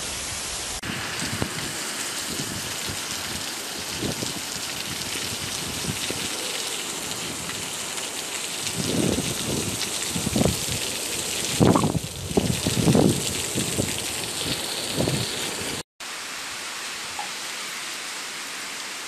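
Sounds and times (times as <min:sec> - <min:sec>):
heavy rain on cobblestones: 0:00.0 - 0:19.0.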